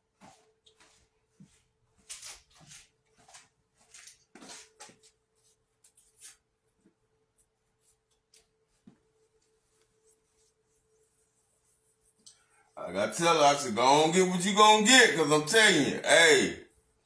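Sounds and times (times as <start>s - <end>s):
faint steady hum: 2.8s - 17.0s.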